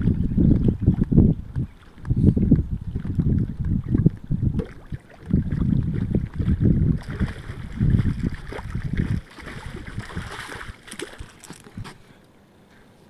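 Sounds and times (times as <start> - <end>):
fish splashing and thrashing in water: 0.0 - 11.8
low rumbling on microphone: 0.0 - 12.2.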